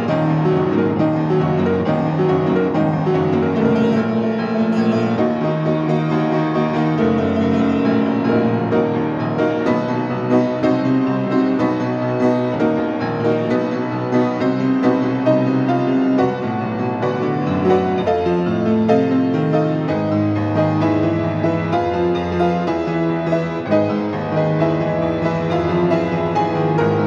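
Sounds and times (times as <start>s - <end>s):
solo grand piano: 0.0s - 27.0s.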